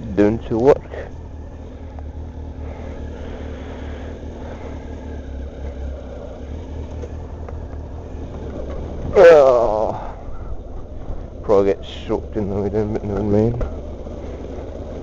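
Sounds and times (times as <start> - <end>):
motorcycle engine running: 0.0 - 15.0
wind and tyres on wet road: 0.0 - 15.0.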